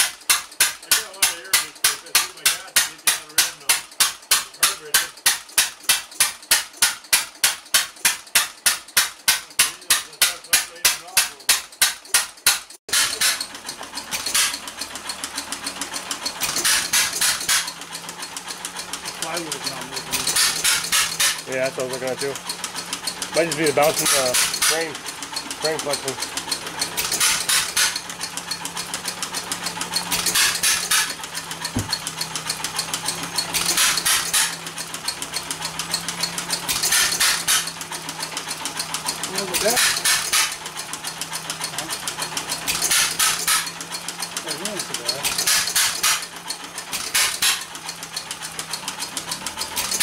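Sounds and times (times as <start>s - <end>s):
engine firing bursts: 0.0s - 50.0s
hit-and-miss engine running: 0.0s - 50.0s
rapid engine clicking: 0.0s - 50.0s.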